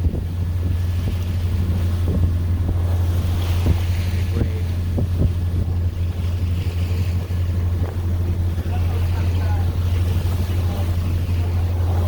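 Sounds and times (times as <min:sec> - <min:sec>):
boat engine droning: 0:00.0 - 0:12.0
water washing past hull: 0:00.0 - 0:12.0
wind buffeting microphone: 0:00.0 - 0:12.0.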